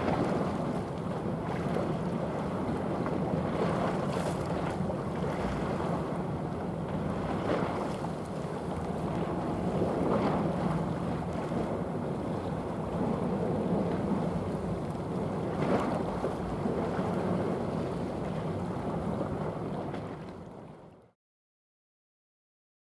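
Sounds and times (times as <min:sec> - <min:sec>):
wind noise on microphone: 0:00.0 - 0:20.7
choppy sea water rushing: 0:00.0 - 0:21.2.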